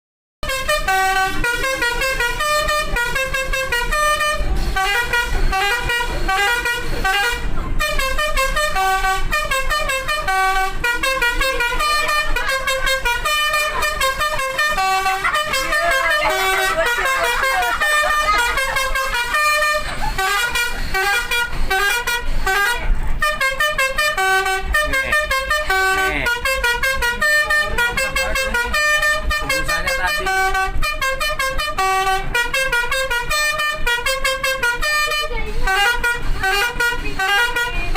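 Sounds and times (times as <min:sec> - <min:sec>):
multi-tone bus horn melody: 0:00.4 - 0:37.9.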